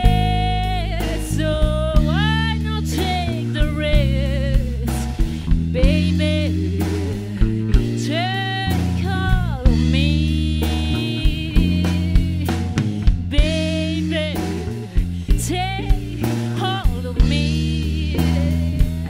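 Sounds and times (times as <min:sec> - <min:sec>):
drum kit: 0:00.0 - 0:19.0
low bass notes: 0:00.0 - 0:19.0
woman singing with vibrato: 0:00.0 - 0:19.0.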